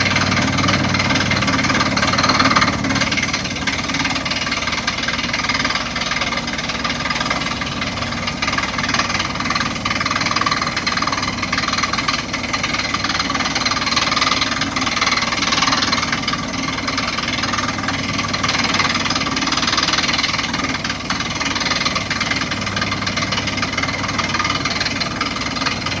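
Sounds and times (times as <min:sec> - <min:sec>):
drilling rig rattling din: 0:00.0 - 0:26.0.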